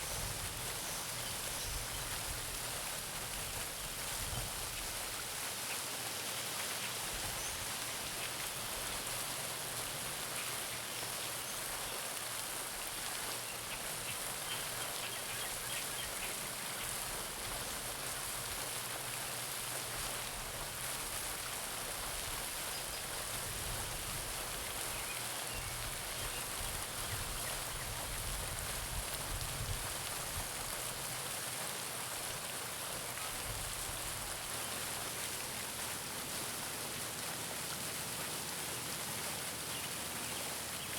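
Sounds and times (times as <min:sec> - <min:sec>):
fountain water splashing: 0:00.0 - 0:40.9.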